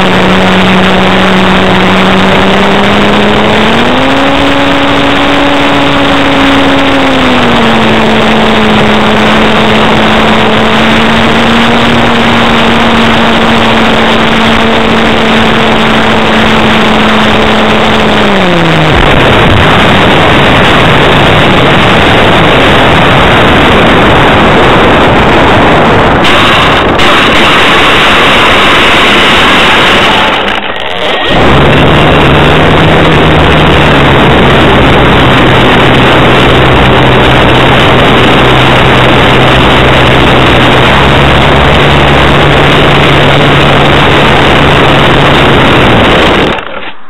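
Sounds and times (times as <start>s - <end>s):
wind rush over microphone: 0.0s - 46.6s
electric motor propeller whine: 0.0s - 47.0s.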